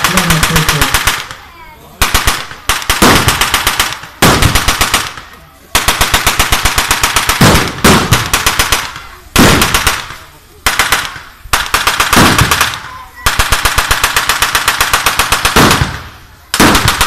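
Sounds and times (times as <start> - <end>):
machine gun firing bursts: 0.0 - 1.4, 2.0 - 17.0.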